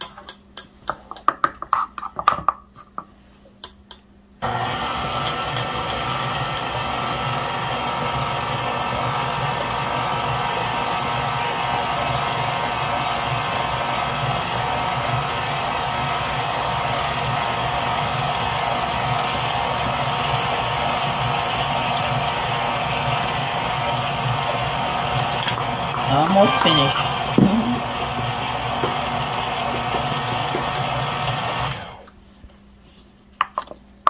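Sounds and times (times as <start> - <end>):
electric stand mixer churning batter: 4.4 - 32.1.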